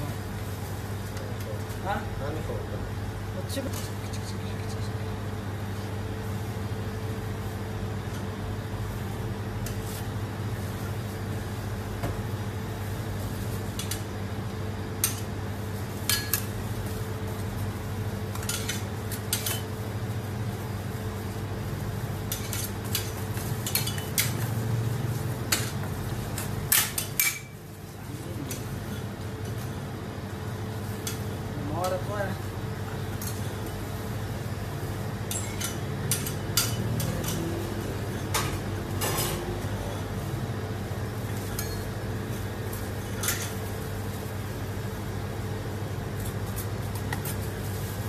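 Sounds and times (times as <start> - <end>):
refrigeration unit hum: 0.0 - 48.0.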